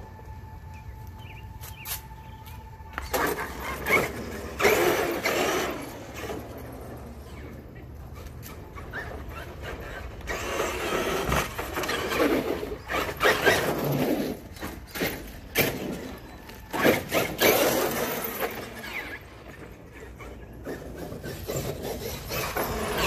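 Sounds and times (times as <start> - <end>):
rc truck tyres whirring: 0.0 - 23.0.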